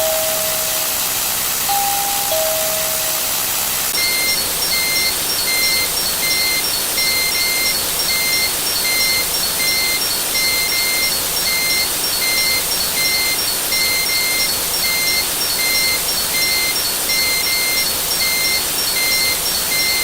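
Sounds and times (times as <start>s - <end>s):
steady hiss: 0.0s - 20.0s
vehicle reversing alarm beeping: 4.0s - 20.0s.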